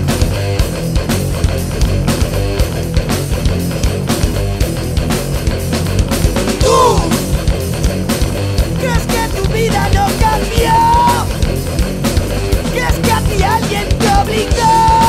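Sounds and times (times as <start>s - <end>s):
bass: 0.0s - 15.0s
distorted electric guitars: 0.0s - 15.0s
drums: 0.0s - 15.0s.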